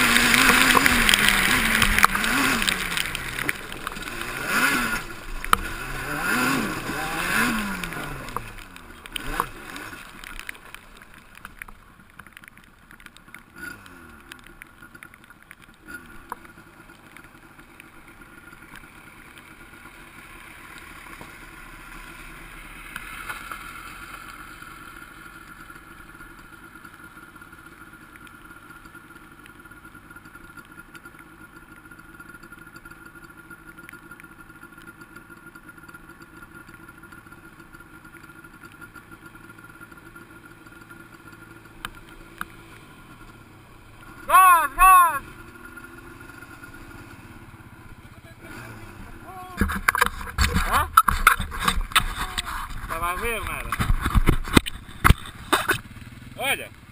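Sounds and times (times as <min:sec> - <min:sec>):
quad bike engine revving and idling: 0:00.0 - 0:10.7, 0:15.8 - 0:56.9.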